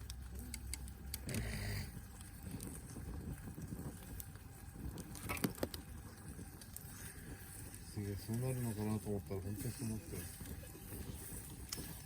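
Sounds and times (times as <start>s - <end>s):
wood fire crackling: 0.0s - 12.0s
wind rumble on microphone: 1.2s - 12.0s.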